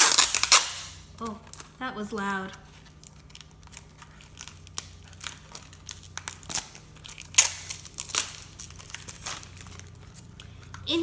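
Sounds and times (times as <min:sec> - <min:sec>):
plastic packaging crinkling: 0:00.0 - 0:11.0
plastic ripping: 0:00.0 - 0:11.0.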